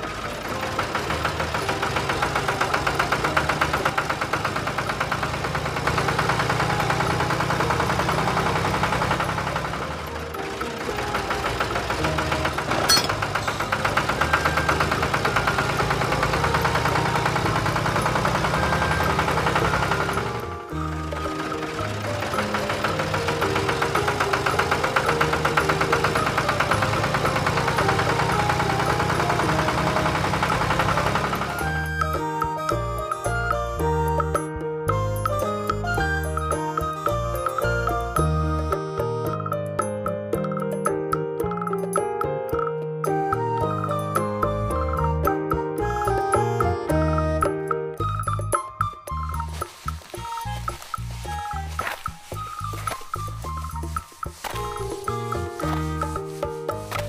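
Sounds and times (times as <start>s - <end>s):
model tractor engine chugging: 0.0s - 40.0s, 43.4s - 57.0s
background music: 0.0s - 57.0s.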